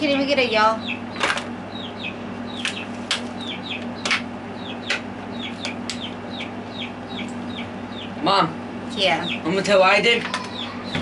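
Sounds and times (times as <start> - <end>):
steady low hum: 0.0 - 11.0
small bird chirping: 0.4 - 11.0.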